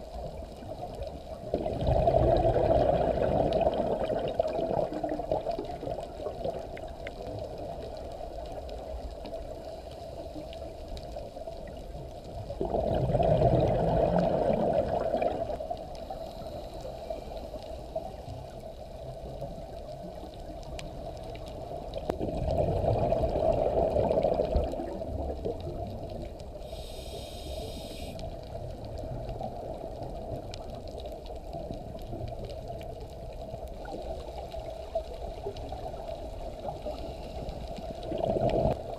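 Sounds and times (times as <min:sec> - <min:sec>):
scuba exhaust bubbles: 0:00.0 - 0:17.0, 0:17.7 - 0:38.9
muffled underwater rush: 0:00.0 - 0:38.9.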